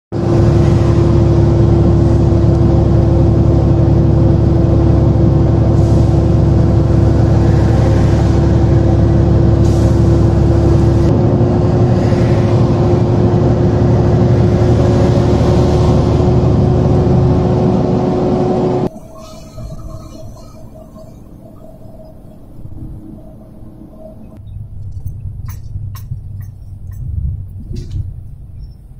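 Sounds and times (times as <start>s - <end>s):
vehicle engine drone: 0.1s - 28.9s.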